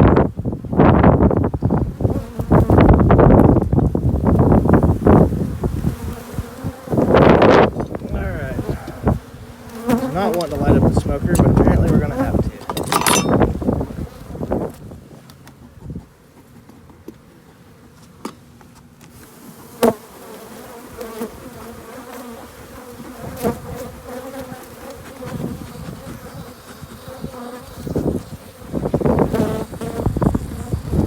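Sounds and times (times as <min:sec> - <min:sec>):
honeybees buzzing: 0:00.7 - 0:15.0, 0:19.2 - 0:31.0.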